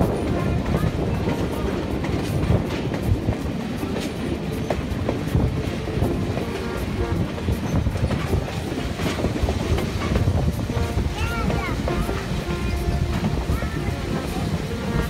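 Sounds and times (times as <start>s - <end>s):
train wheel rumble: 0.0s - 15.0s
wheels clicking over rail joints: 0.0s - 15.0s.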